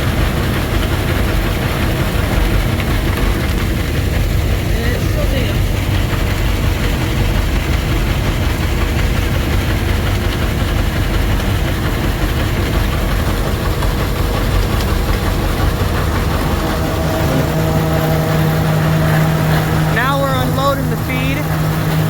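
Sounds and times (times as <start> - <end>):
steady low hum: 0.0 - 22.0
tractor engine running under load: 0.0 - 22.0.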